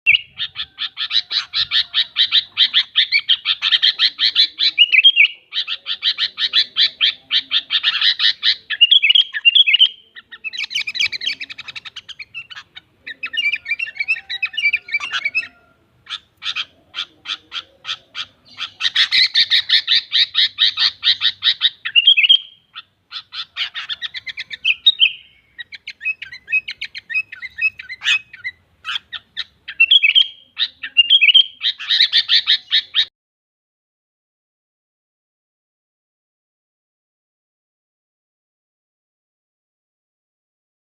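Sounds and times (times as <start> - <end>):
bird chattering calls: 0.1 - 33.1.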